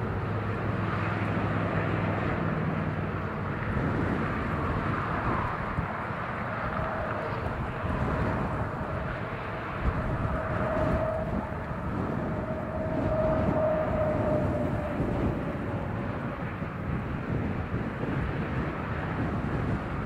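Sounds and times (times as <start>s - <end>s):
diesel train rumble: 0.0s - 20.0s.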